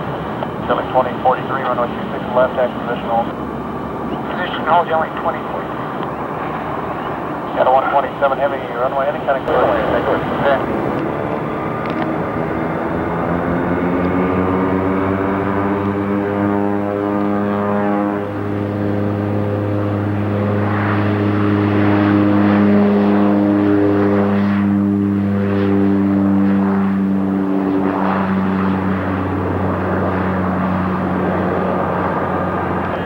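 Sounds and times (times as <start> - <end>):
airliner engines at takeoff: 0.0 - 33.0.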